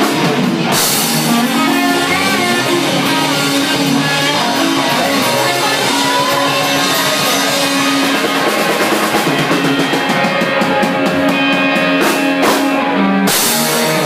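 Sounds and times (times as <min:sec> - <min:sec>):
drum kit: 0:00.0 - 0:14.0
electric guitar: 0:00.0 - 0:14.0.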